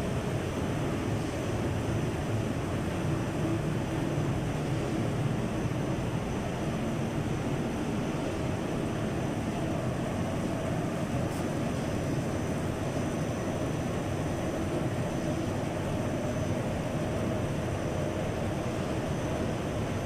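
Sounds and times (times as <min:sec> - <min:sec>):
printing press mechanical hum: 0:00.0 - 0:20.0.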